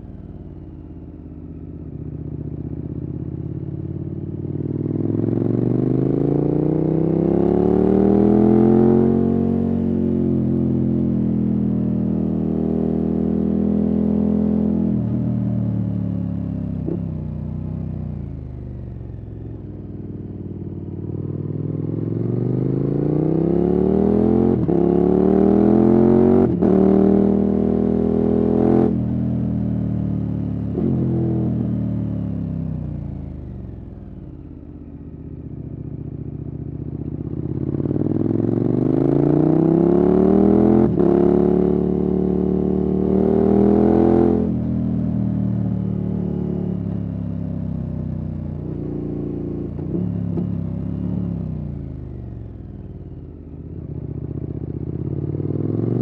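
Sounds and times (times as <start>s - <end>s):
motorcycle accelerating through gears: 0.0s - 56.0s.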